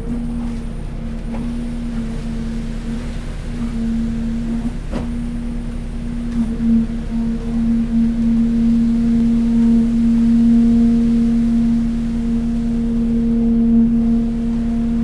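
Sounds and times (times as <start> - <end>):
concrete vibrator high-pitched drone: 0.0 - 15.0
low engine rumble: 0.0 - 15.0.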